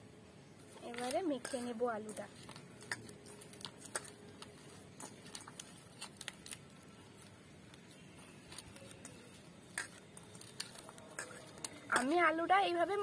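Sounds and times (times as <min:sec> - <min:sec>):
hands squishing potato mixture: 0:00.6 - 0:13.0.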